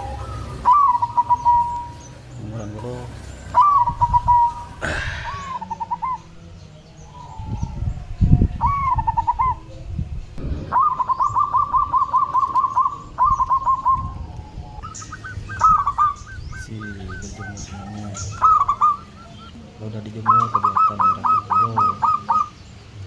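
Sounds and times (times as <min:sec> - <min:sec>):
dove cooing: 0:00.0 - 0:22.6.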